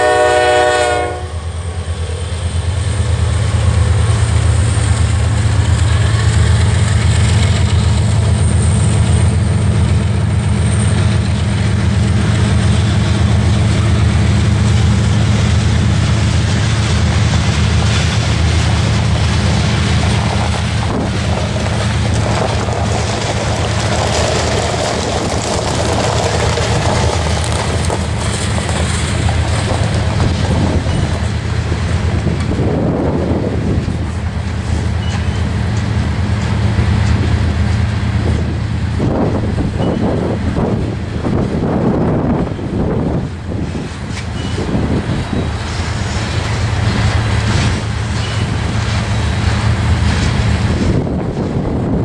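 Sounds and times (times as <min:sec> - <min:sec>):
freight train passing: 0:00.0 - 0:52.0
wheel-on-rail noise: 0:01.1 - 0:52.0.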